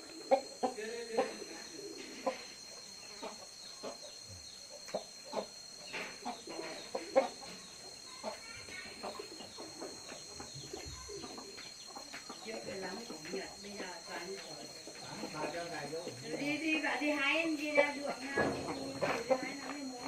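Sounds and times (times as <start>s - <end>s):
chickens clucking: 0.0s - 20.0s
faint high-pitched tone: 0.0s - 20.0s.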